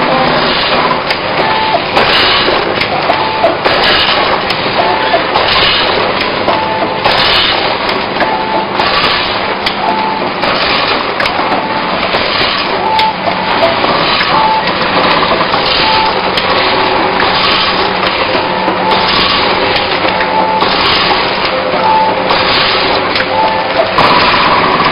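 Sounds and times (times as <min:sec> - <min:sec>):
packing machine clattering: 0:00.0 - 0:24.9.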